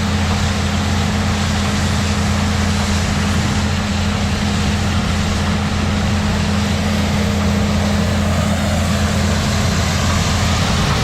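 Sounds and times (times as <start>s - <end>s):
harvesting machinery noise: 0.0s - 11.0s
tractor diesel engine hum: 0.0s - 11.0s.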